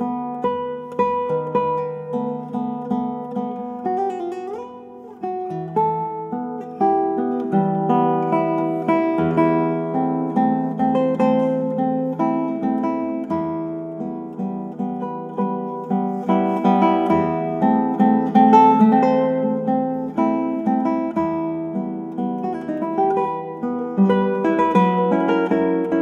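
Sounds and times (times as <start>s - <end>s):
classical guitar playing: 0.0s - 26.0s.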